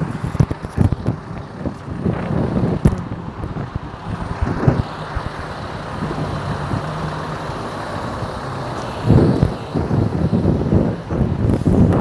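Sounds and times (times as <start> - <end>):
wind buffeting microphone: 0.0 - 12.0
lorry diesel engine driving past: 1.4 - 12.0.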